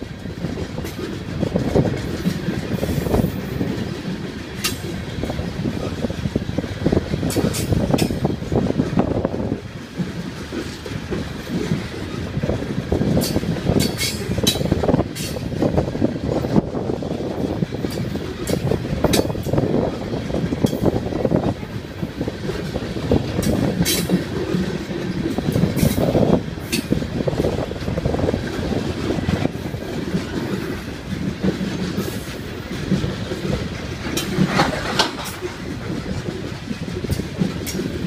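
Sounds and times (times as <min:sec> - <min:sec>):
train cars clacking and clanking: 0:00.0 - 0:38.0
train wheels rumbling on rails: 0:00.0 - 0:38.0.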